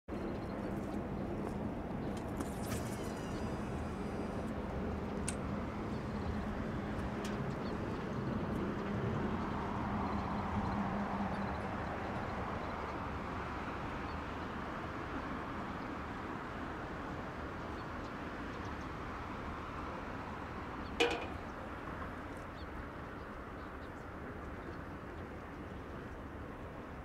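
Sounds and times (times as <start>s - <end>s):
outdoor background noise by water: 0.1s - 27.0s.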